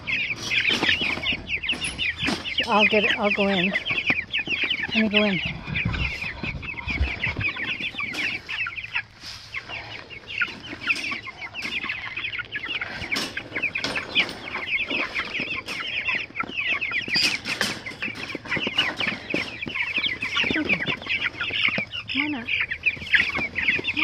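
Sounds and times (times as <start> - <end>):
wire crate clanking and rattling: 0.0 - 9.1, 10.3 - 24.0
chicks peeping: 0.0 - 24.0.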